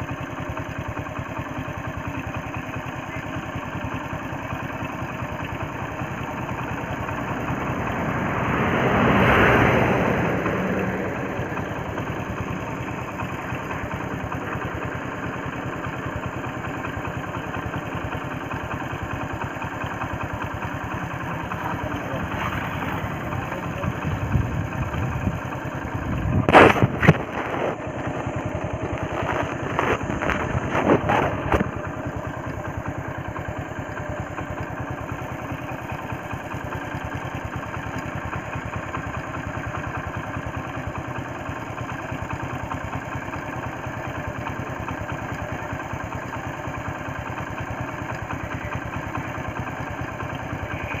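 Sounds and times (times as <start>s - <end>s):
vehicle engine idling: 0.0s - 51.0s.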